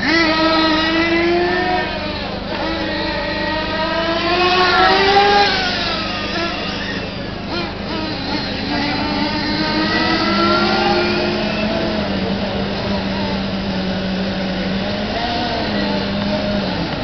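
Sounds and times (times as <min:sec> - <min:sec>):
model racing car motors: 0:00.0 - 0:17.0.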